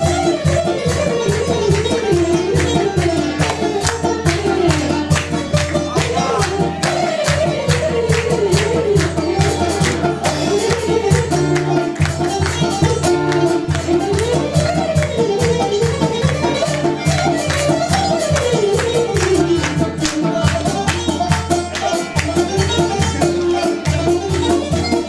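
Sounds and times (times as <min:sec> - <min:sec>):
steady drum beat: 0:00.0 - 0:25.0
traditional ensemble music: 0:00.0 - 0:25.0.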